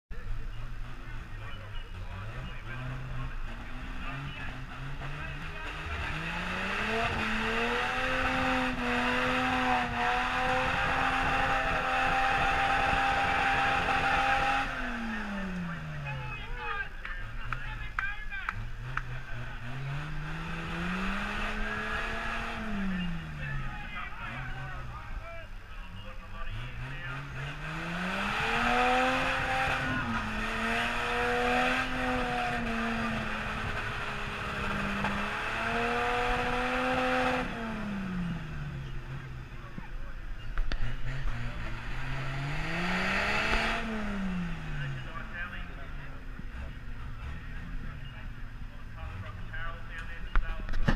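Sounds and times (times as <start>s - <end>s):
truck engine at full throttle: 0.1s - 50.9s.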